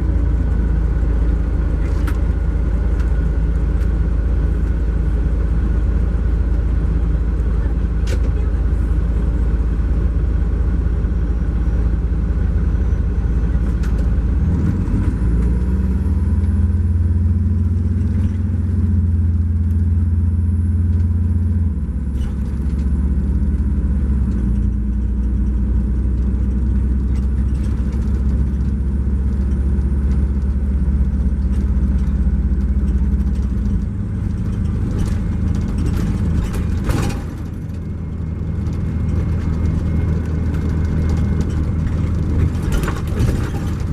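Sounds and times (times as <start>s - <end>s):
bus diesel engine droning: 0.0s - 43.9s.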